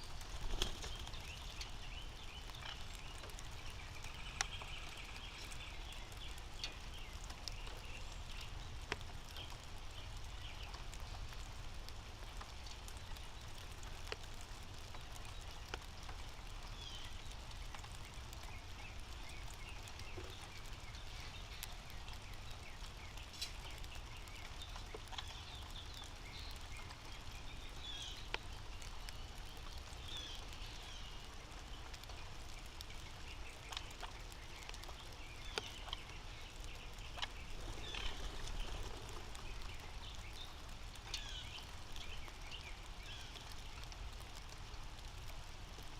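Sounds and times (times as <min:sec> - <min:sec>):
low outdoor rumble: 0:00.0 - 0:45.9.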